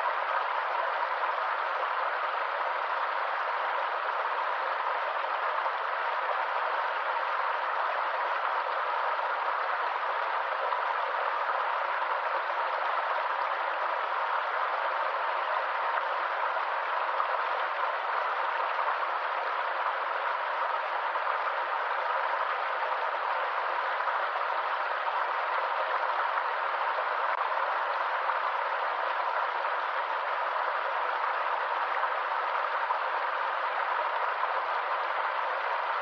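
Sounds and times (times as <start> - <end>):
stream flowing water: 0.0 - 36.0.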